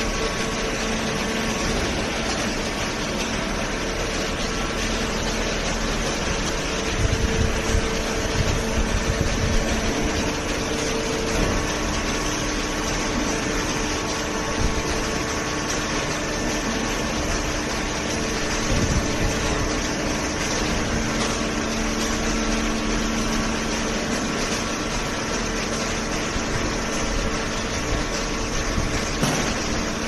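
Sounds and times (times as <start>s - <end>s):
baling machine running: 0.0s - 30.0s.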